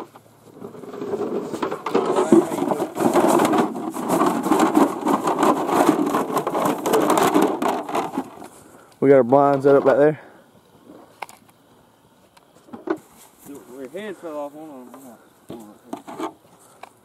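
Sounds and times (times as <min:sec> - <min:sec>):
gear rustling and scraping in grass: 0:00.0 - 0:10.1, 0:12.5 - 0:16.8
small crackles: 0:00.0 - 0:17.0.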